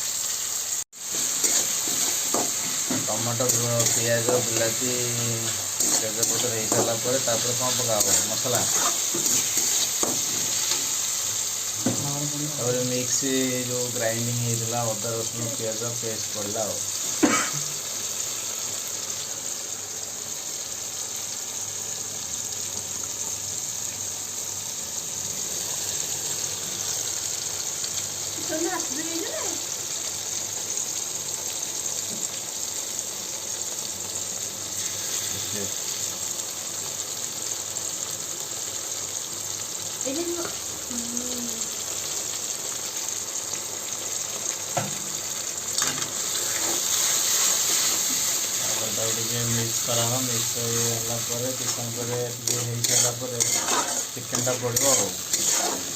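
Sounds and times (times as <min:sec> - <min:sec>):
paste sizzling in hot oil: 0:00.0 - 0:55.9.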